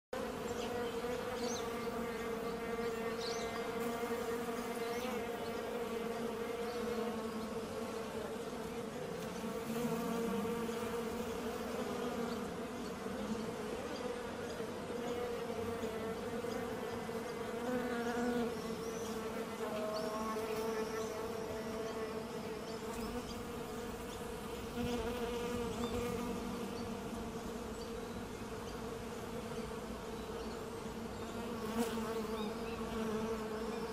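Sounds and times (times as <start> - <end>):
honeybees humming: 0.2 - 33.9.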